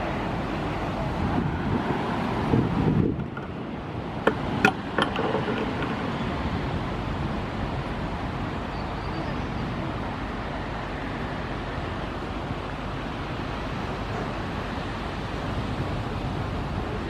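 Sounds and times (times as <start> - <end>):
steady rushing noise: 0.0 - 8.7, 9.4 - 17.0.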